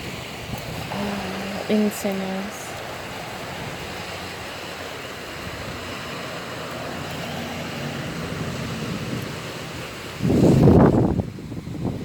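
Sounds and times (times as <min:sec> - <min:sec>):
rain and wind rushing: 0:00.0 - 0:12.0.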